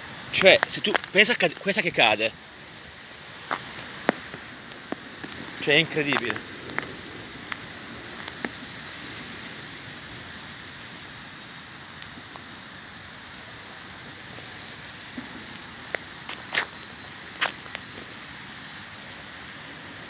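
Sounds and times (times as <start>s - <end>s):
hail and rain hissing: 0.0s - 20.0s
hailstones ticking: 0.0s - 20.0s.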